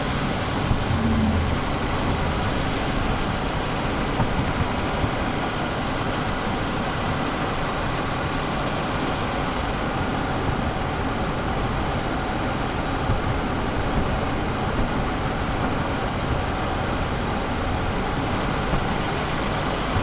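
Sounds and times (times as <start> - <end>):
road and tyre noise in car cabin: 0.0 - 20.0.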